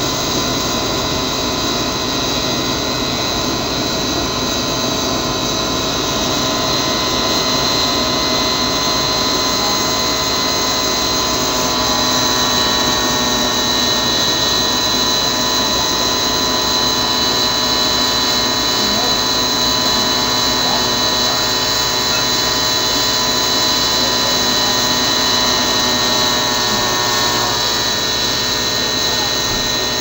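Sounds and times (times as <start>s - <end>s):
jet engine rushing whine: 0.0s - 30.0s.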